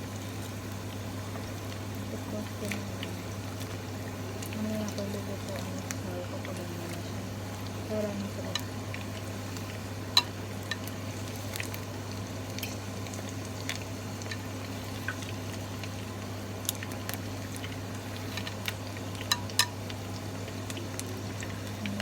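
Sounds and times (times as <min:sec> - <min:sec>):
chicken frying in oil: 0:00.0 - 0:22.0
sharp crackles and pops: 0:00.0 - 0:22.0
steady low hum: 0:00.0 - 0:22.0.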